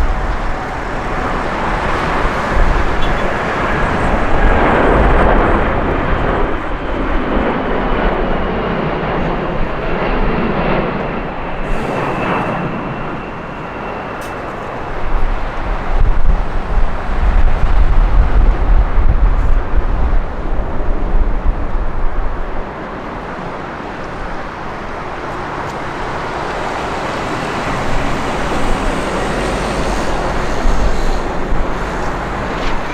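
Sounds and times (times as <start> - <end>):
heavy low rumble: 0.0 - 32.9
jet engines rushing: 0.0 - 32.9.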